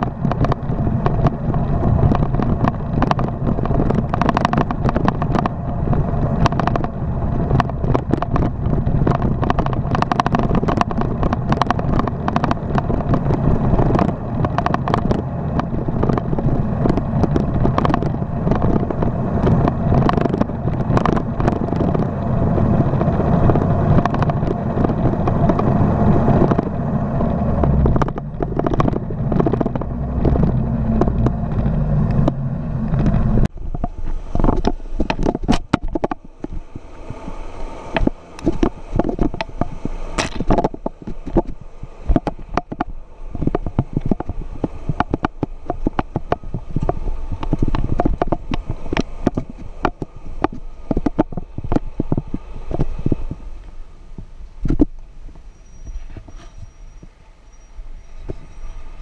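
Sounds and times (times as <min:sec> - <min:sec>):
tyres clicking on stones: 0:00.0 - 0:26.7, 0:27.6 - 0:33.2, 0:38.0 - 0:53.3
vehicle rattles and knocks: 0:00.0 - 0:57.2
off-road engine running: 0:00.0 - 0:59.0.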